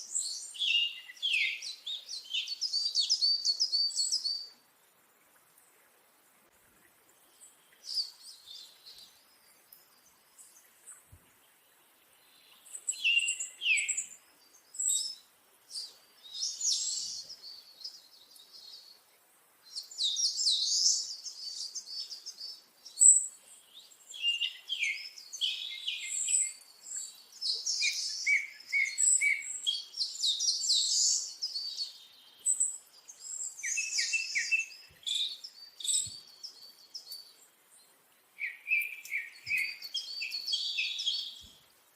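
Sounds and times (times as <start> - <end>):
birds chirping and trilling: 0.0 - 4.6, 7.2 - 19.0, 19.6 - 41.7.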